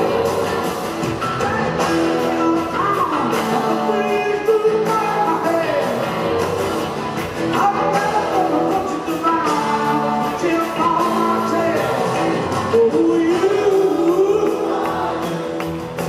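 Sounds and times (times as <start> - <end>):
man singing lead: 0.0 - 15.8
drums: 0.0 - 16.0
electric guitar: 0.0 - 16.0.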